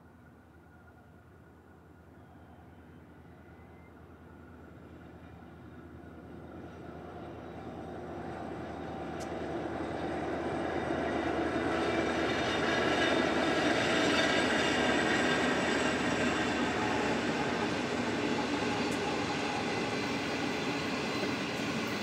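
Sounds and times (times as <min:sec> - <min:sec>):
diesel freight train passing: 0:00.0 - 0:22.0.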